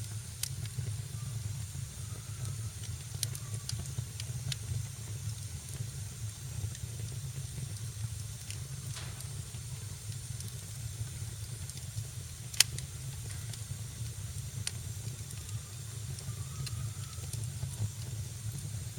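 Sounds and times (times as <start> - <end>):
wood fire crackling: 0.0 - 18.9
sharp pops of fire: 2.4 - 18.9.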